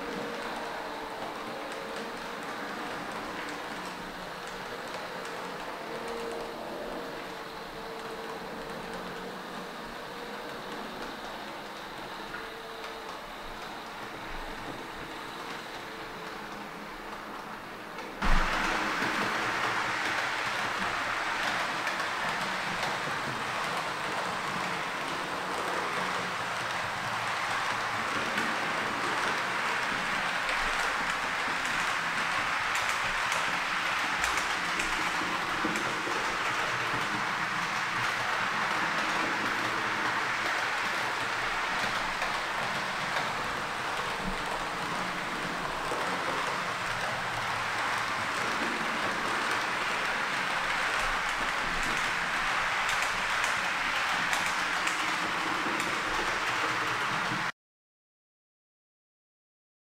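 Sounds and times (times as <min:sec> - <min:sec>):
model train rolling whir: 0:00.0 - 0:57.5
wheels clicking on rail joints: 0:00.0 - 0:57.5.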